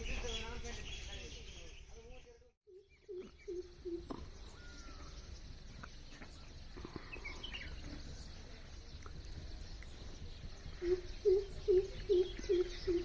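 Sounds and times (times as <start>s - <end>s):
bird chirps: 0.0s - 13.0s
low outdoor rumble: 0.0s - 13.0s.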